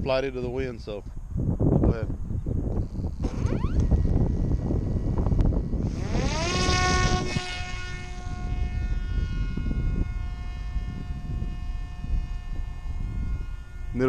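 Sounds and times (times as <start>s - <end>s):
wind rumble on microphone: 0.0s - 14.0s
electric propeller motor whine: 2.3s - 14.0s.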